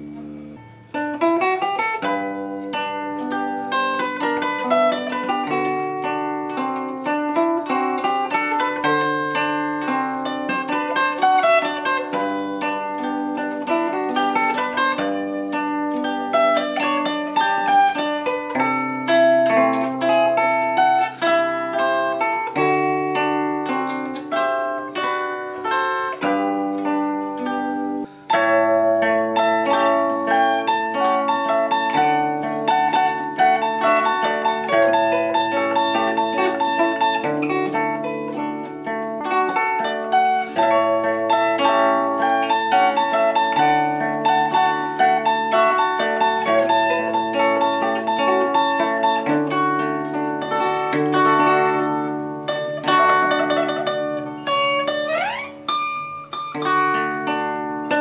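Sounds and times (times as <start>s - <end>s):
zither melody: 0.0s - 58.0s.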